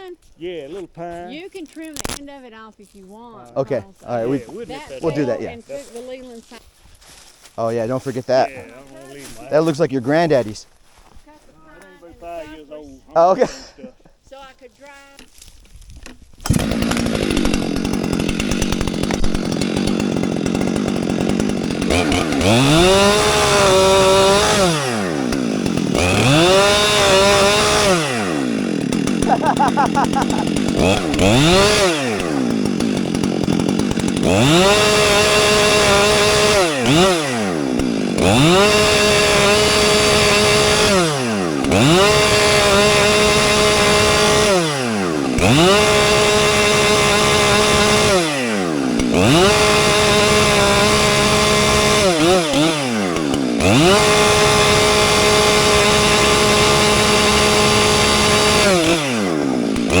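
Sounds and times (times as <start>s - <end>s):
chainsaw cutting wood: 0.0s - 12.6s, 14.4s - 60.0s.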